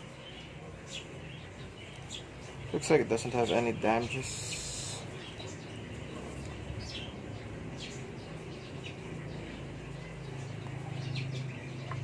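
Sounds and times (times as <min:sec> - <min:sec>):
bird chirps: 0:00.0 - 0:12.0
steady low hum: 0:00.0 - 0:12.0.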